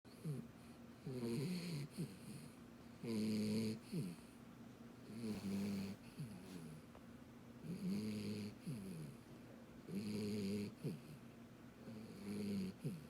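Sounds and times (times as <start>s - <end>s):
puppy snoring: 0.1s - 4.4s, 5.0s - 6.9s, 7.6s - 9.2s, 9.9s - 13.0s.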